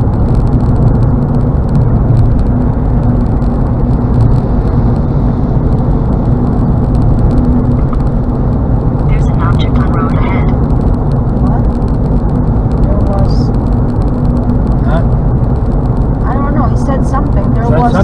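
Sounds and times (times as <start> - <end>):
faint engine hum: 0.0 - 18.0
tyre and road rumble: 0.0 - 18.0.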